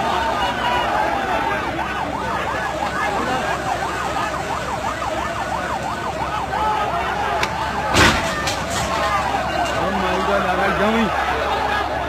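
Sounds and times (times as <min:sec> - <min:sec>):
emergency siren yelping: 0:00.0 - 0:12.0
large crowd noise: 0:00.0 - 0:12.0.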